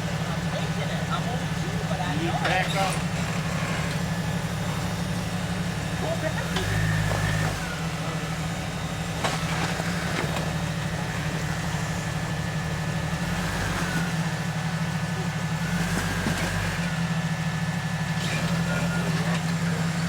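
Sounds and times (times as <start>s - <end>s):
off-road vehicle engine throbbing: 0.0s - 20.0s.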